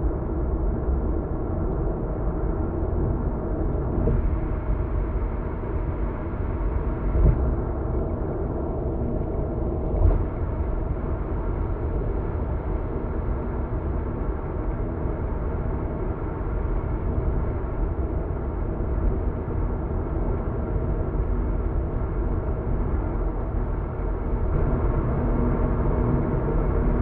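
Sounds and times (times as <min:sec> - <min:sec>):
faint engine hum: 0:00.0 - 0:27.0.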